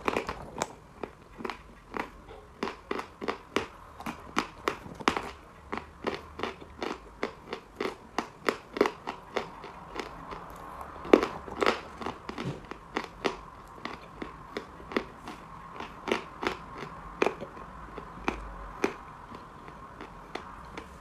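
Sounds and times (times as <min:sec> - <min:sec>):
chalk crunching while chewed: 0:00.0 - 0:21.0.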